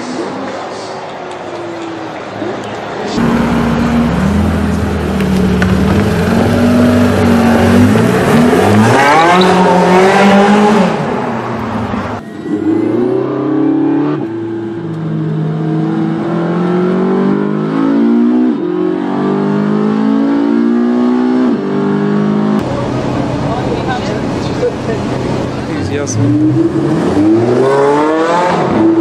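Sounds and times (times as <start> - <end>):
car engine accelerating hard: 3.2 - 29.0.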